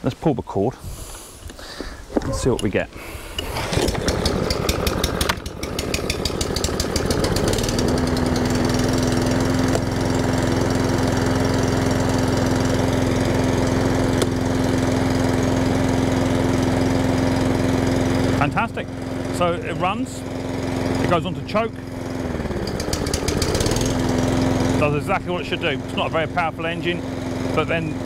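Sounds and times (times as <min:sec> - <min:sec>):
lawnmower engine starting and running: 0:02.2 - 0:28.0.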